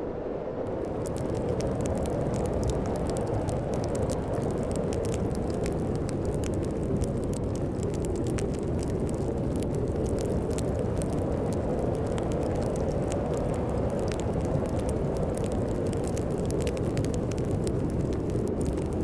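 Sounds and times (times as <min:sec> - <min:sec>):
wood fire crackling: 0:00.7 - 0:19.0.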